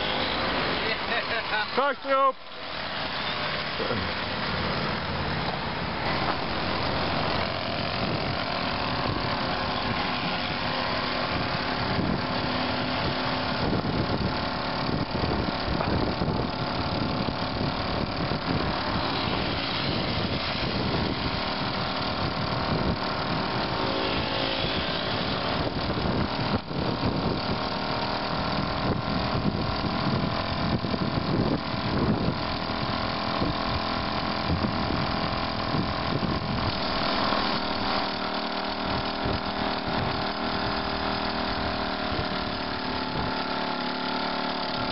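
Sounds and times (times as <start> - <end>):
moped engines puttering: 0.0 - 44.9.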